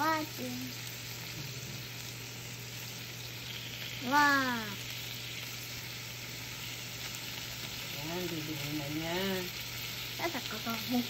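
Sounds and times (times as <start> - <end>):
bacon sizzling in a pan: 0.0 - 11.0
steady low hum: 0.0 - 11.0.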